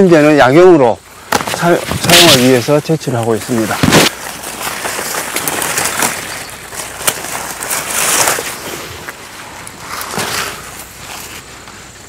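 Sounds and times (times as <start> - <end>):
leaves and branches rustling: 0.0 - 12.0.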